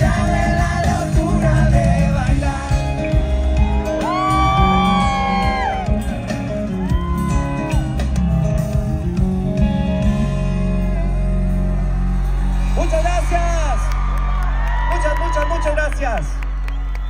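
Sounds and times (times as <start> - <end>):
live band with heavy bass beat: 0.0 - 15.4.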